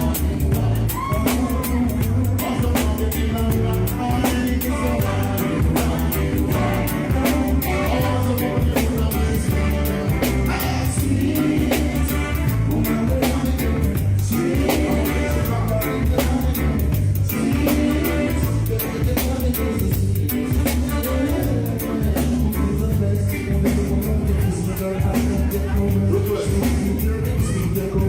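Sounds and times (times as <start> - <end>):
drum kit beat: 0.0 - 28.0
guitar: 0.0 - 28.0
heavy bass line: 0.0 - 28.0
person singing: 0.0 - 28.0
reggae band playing: 0.0 - 28.0.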